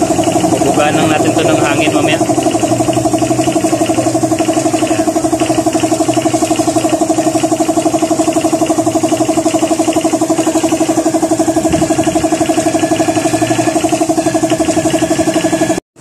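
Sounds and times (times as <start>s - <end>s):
machine pulsing hum: 0.0s - 16.0s.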